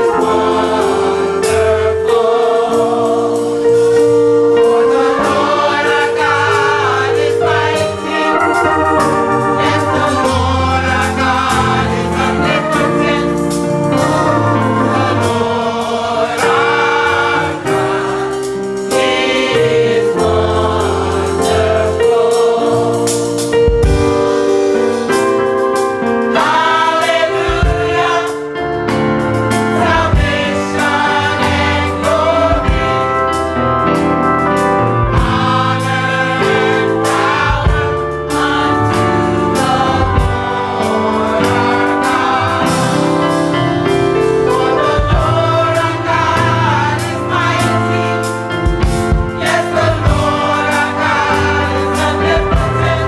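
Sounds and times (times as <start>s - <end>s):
gospel choir singing: 0.0s - 53.0s
instrumental accompaniment: 0.0s - 53.0s.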